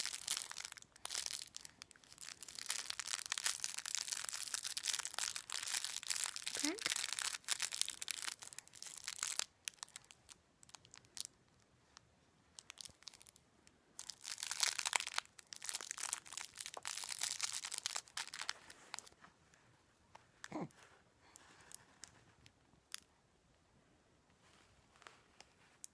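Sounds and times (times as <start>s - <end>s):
crinkling handling noise: 0.0s - 13.4s, 14.0s - 23.0s.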